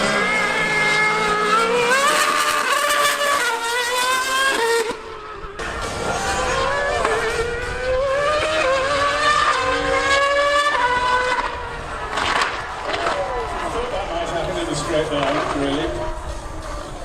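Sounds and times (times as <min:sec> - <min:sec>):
racing engine accelerating: 0:00.0 - 0:17.0.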